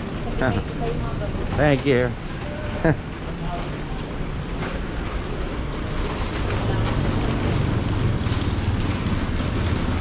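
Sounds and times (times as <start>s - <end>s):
shopping cart rolling on concrete: 0.0s - 10.0s.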